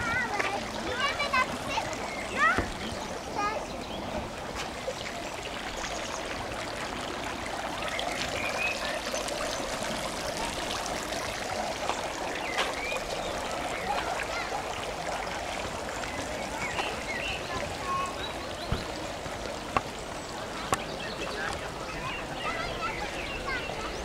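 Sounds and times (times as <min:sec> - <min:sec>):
running water: 0:00.0 - 0:24.0.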